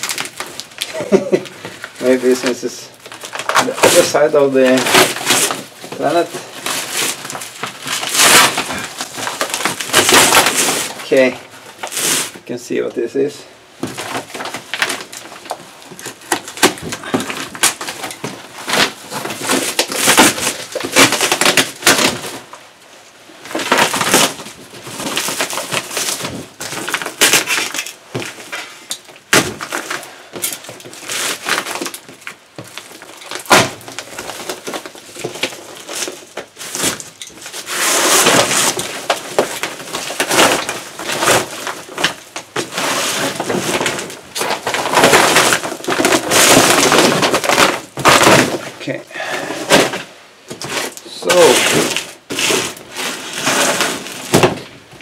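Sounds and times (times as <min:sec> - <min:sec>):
plastic wrap crinkling: 0:00.0 - 0:55.0.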